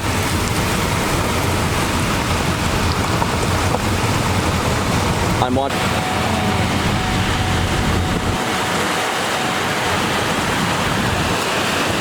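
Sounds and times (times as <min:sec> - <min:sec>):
storm wind and rain: 0:00.0 - 0:12.0
low rumble: 0:00.4 - 0:11.6.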